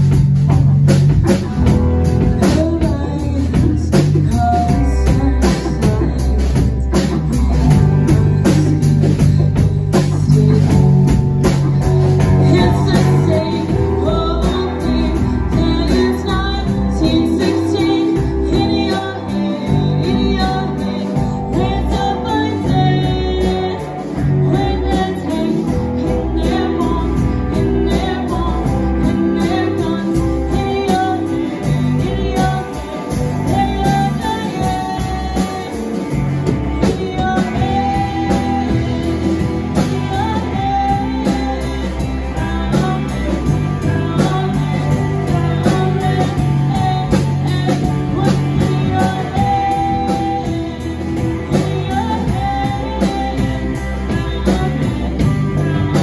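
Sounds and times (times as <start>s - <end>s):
drum kit: 0.0s - 56.0s
guitar: 0.0s - 56.0s
person singing: 0.0s - 56.0s.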